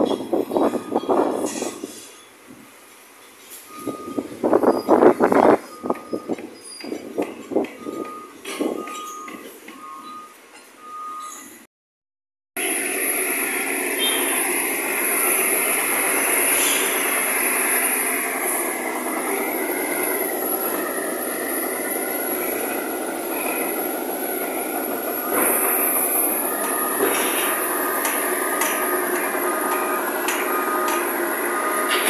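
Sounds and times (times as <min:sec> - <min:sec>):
telehandler engine and machinery: 0:00.0 - 0:11.7, 0:12.6 - 0:32.0.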